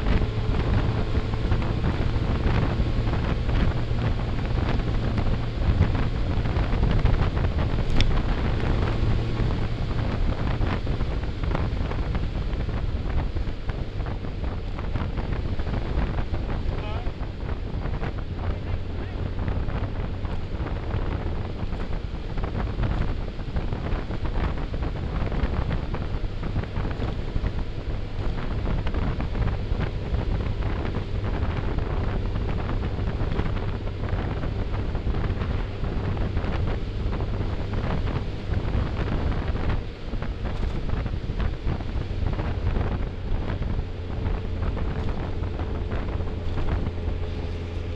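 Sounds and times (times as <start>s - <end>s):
motorcycle engine drone: 0.0s - 47.9s
wind buffeting microphone: 0.0s - 47.9s.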